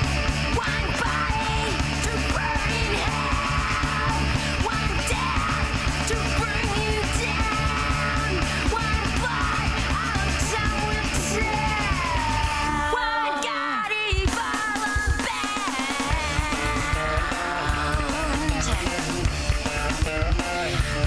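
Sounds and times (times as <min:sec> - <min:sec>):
punk metal band playing: 0:00.0 - 0:13.4, 0:14.1 - 0:21.0
driving drum beat: 0:00.0 - 0:21.0
yelled vocals: 0:00.0 - 0:21.0.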